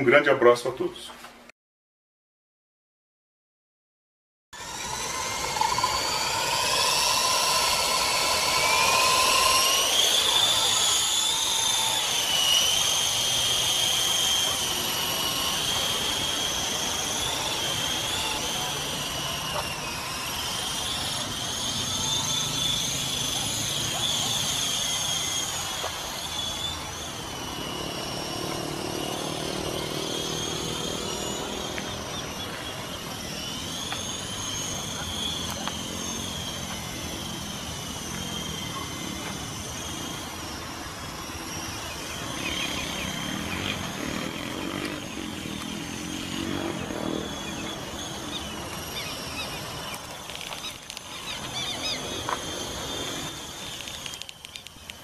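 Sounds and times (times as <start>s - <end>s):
rc helicopter rotors whining: 4.6s - 55.0s.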